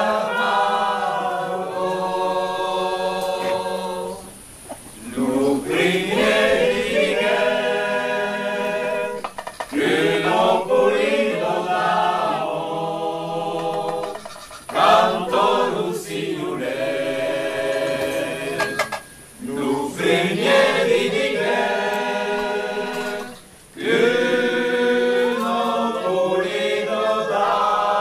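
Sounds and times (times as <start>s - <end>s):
group singing unaccompanied: 0.0s - 28.0s.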